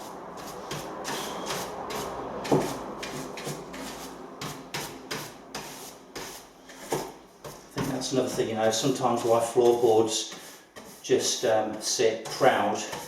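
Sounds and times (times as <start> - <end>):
hand brush sweeping wood: 0.0 - 13.0.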